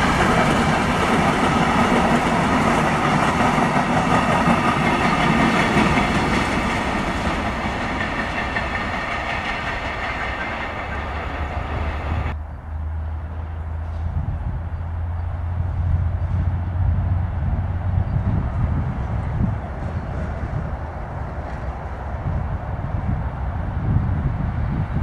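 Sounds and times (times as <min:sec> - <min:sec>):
freight train clickety-clack: 0:00.0 - 0:12.4, 0:15.6 - 0:25.0.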